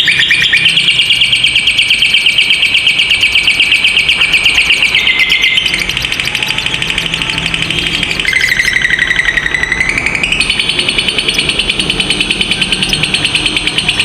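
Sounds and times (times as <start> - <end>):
lovebird chattering trill: 0.0 - 14.0.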